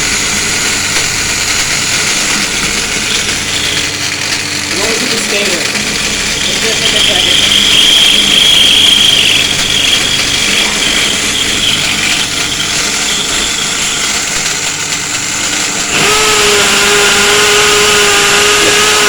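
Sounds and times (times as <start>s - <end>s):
angle grinder whining: 0.0s - 19.0s
power drill motor hum: 0.0s - 19.0s.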